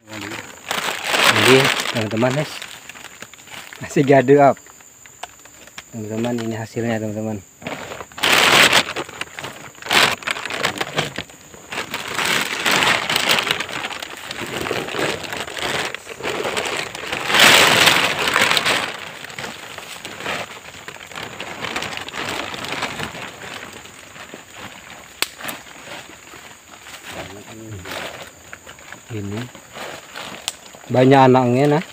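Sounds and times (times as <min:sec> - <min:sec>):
plastic bag crinkling: 0:00.0 - 0:31.9.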